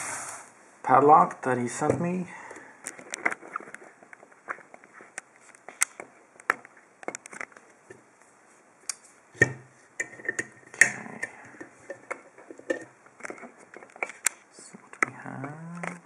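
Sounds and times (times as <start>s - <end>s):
handling noises: 1.8s - 16.0s.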